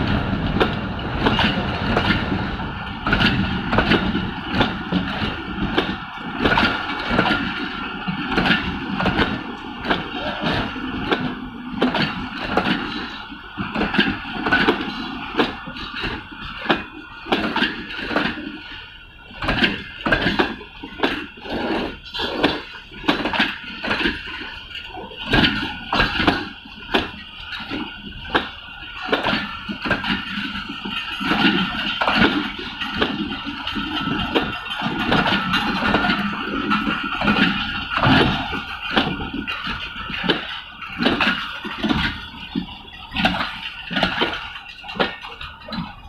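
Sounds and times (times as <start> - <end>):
rolling rumble of train: 0.0 - 46.0
train wheels clattering over rail joints: 0.0 - 46.0.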